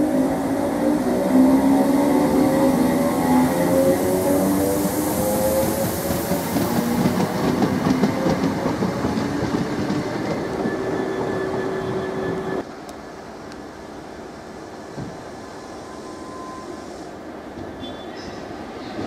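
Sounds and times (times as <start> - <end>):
train wheels and motors rumbling: 0.0 - 15.4.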